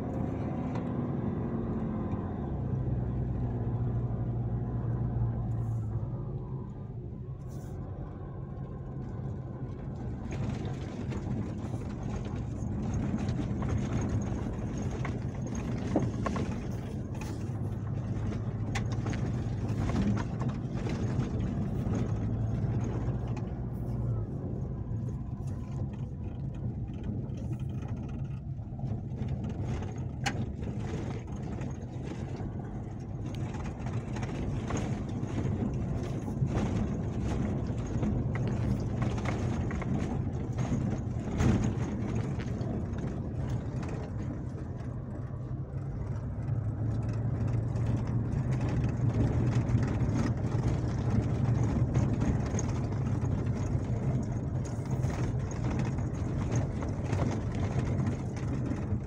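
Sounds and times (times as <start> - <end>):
diesel engine running: 0.0 - 59.0
stones clicking under wheels: 9.5 - 59.0
tyres crunching over gravel: 10.1 - 28.4, 29.0 - 59.0.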